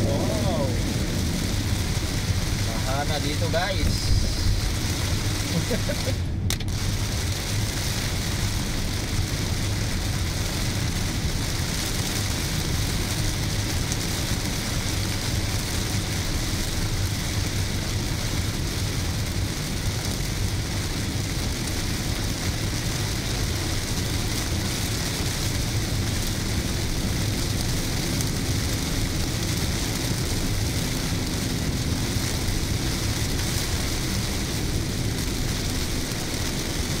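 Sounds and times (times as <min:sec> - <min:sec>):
engine and tyres rumbling: 0:00.0 - 0:37.0
heavy rain on car roof: 0:00.0 - 0:37.0.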